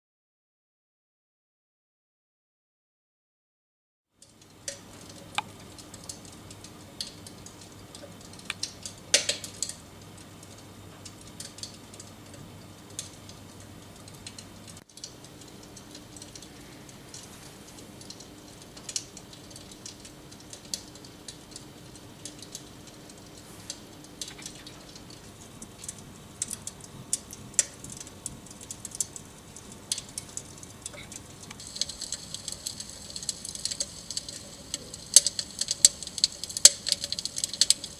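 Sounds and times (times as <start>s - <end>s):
electric fireplace humming: 4.1s - 37.9s
crackling clicks: 4.2s - 37.9s.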